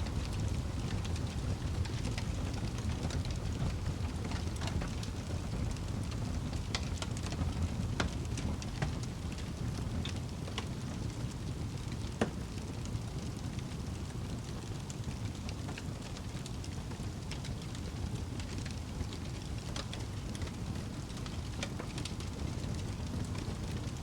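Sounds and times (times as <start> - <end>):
low rumble of flames: 0.0 - 24.0
fire crackling and popping: 0.1 - 24.0.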